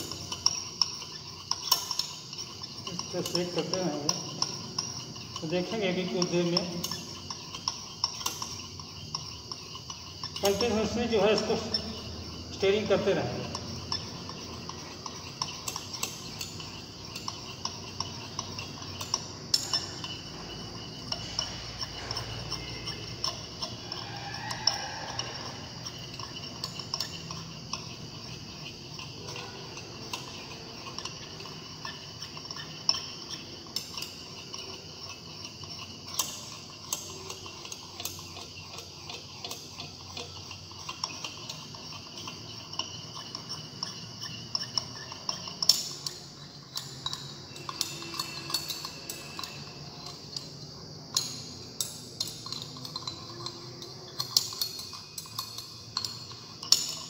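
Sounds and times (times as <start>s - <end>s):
glass rod clinking in beaker: 0.0s - 57.0s.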